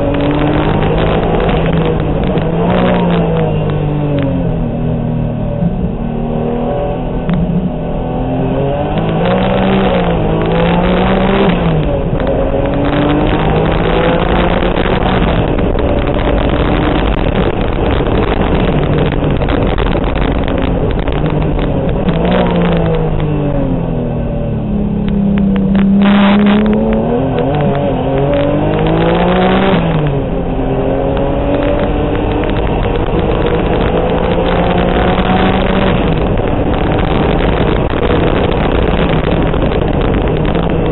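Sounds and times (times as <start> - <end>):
race car engine accelerating: 0.0 - 40.9
road and wind noise: 0.0 - 40.9.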